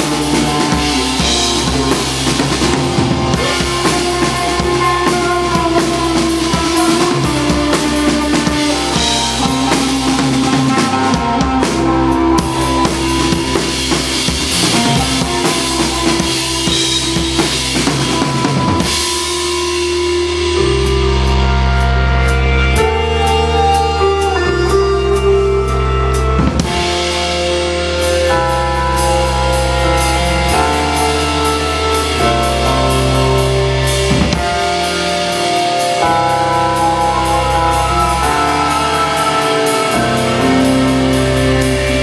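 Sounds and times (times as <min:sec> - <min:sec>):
drum kit beating: 0:00.0 - 0:42.0
live rock band: 0:00.0 - 0:42.0
low held notes: 0:00.0 - 0:42.0.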